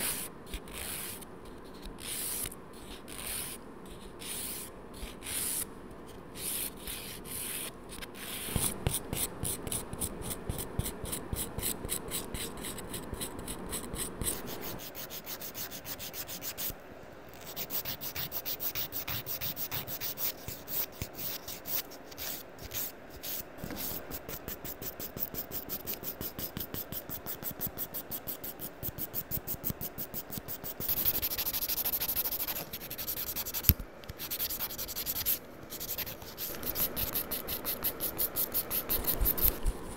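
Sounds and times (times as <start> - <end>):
nail file rasping: 6.4 - 16.8, 17.4 - 39.6.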